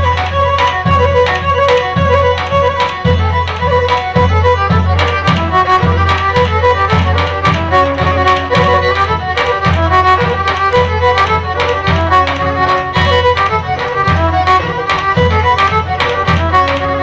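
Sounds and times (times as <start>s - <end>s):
drum beat: 0.0s - 17.0s
lyra playing fast dance tune: 0.0s - 17.0s.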